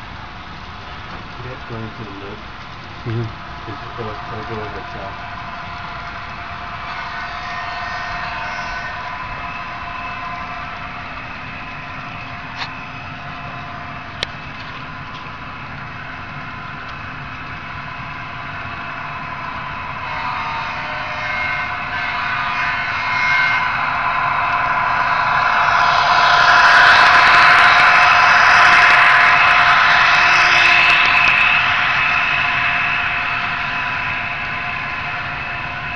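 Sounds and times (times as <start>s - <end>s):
model train running: 0.0s - 35.9s
wheels rattling on track: 0.0s - 35.9s.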